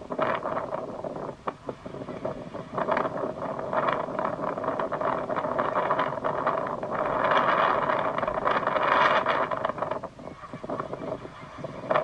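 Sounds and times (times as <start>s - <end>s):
strong wind blowing: 0.0s - 12.0s.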